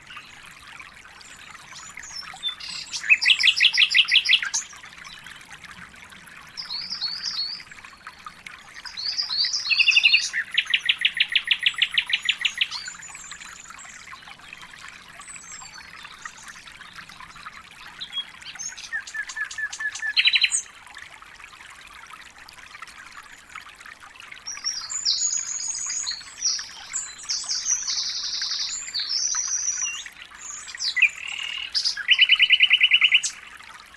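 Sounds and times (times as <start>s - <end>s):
songbirds singing and trilling: 1.2s - 5.5s, 6.5s - 20.8s, 24.4s - 33.7s.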